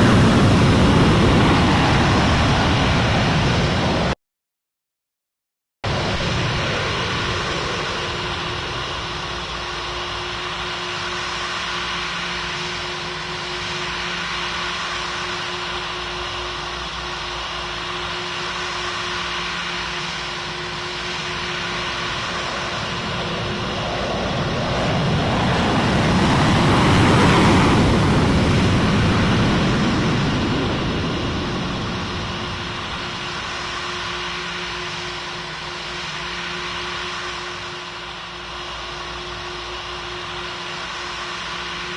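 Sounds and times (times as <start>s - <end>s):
airplane engine hum: 0.0s - 4.2s, 5.9s - 41.9s.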